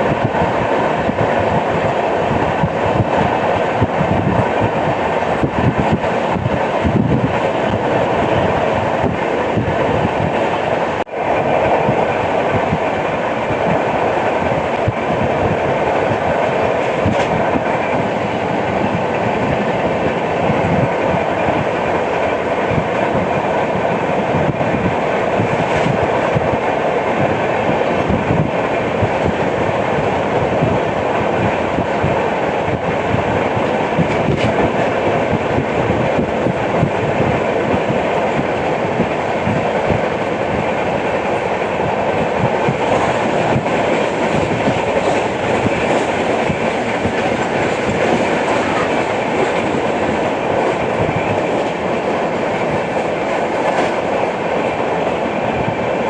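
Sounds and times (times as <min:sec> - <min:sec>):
train coach rumble: 0:00.0 - 0:56.0.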